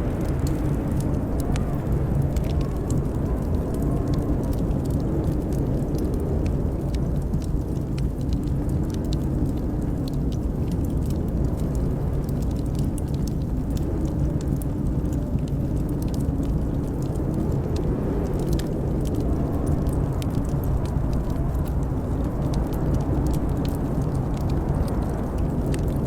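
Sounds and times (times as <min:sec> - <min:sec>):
blizzard wind howling: 0:00.0 - 0:26.0
wood fire crackling: 0:00.0 - 0:26.0.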